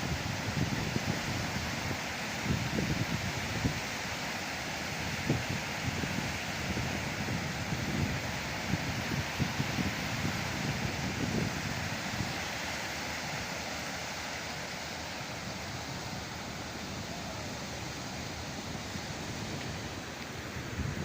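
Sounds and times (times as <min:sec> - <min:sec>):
wind on microphone: 0:00.0 - 0:03.9, 0:05.0 - 0:12.6, 0:15.7 - 0:21.0.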